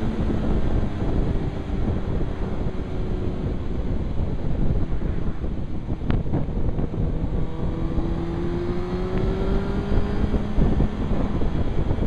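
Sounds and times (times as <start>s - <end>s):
motorcycle engine accelerating: 0.0s - 12.0s
wind buffeting on microphone: 0.0s - 12.0s.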